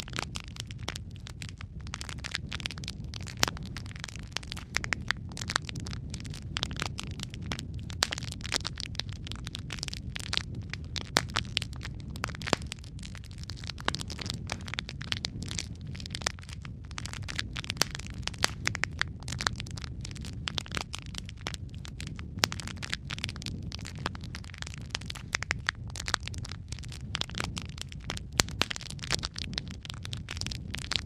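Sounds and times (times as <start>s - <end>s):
logs crackling and popping: 0.0s - 31.0s
low rumble of flames: 0.0s - 31.0s.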